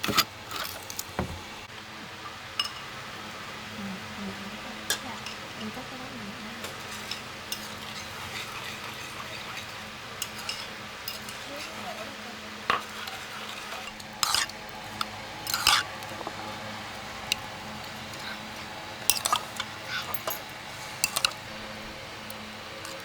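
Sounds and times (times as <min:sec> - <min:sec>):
utensils clinking and scraping dishes: 0:00.0 - 0:01.5, 0:02.6 - 0:02.9, 0:04.8 - 0:05.8, 0:06.6 - 0:23.0.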